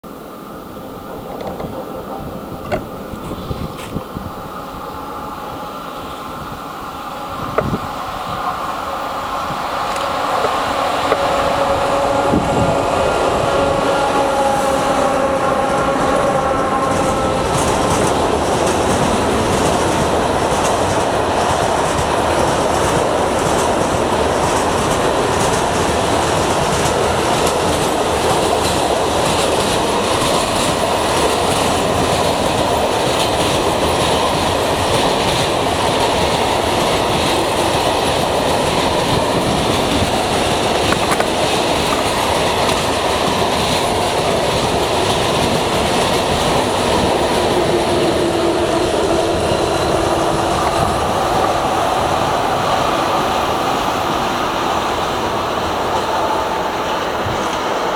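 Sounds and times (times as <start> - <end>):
freight train rolling past: 0.0 - 57.9
wheels clacking over rail joints: 1.0 - 5.0, 6.0 - 57.9.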